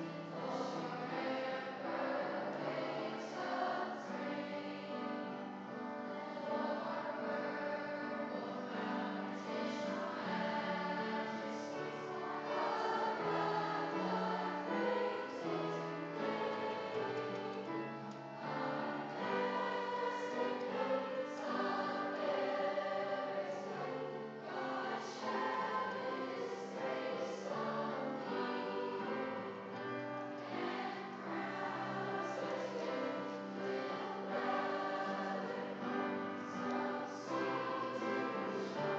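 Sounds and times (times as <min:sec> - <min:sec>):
school chorus singing: 0:00.0 - 0:38.9.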